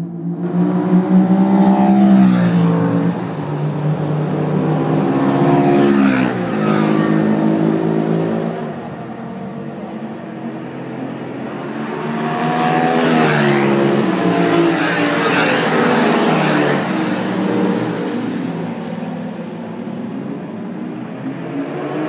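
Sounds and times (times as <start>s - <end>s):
motorcycle engine roaring: 0.2s - 22.0s.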